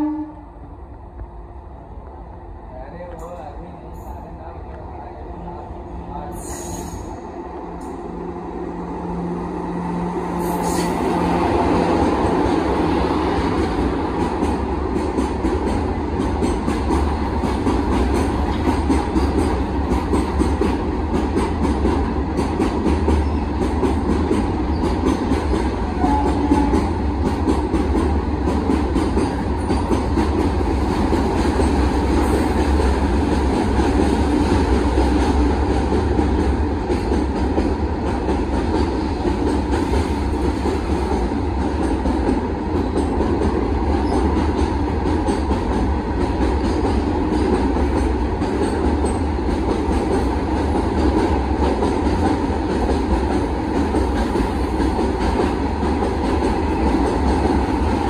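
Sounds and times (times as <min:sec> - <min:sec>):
train wheels rumbling and clattering: 0:00.6 - 0:58.0.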